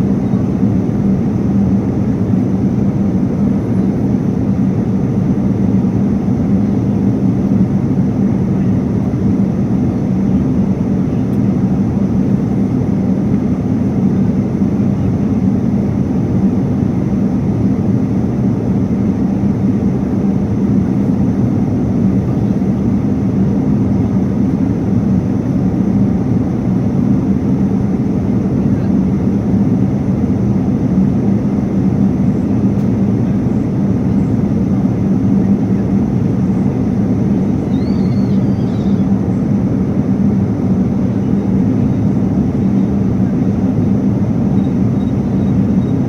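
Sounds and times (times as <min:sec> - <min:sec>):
airliner cabin roar: 0:00.0 - 0:46.0.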